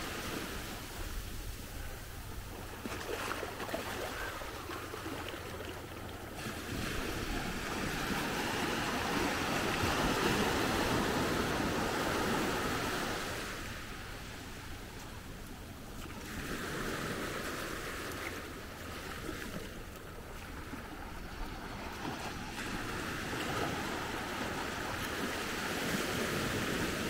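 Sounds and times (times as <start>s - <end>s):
small waves breaking on sand: 0.0s - 27.0s.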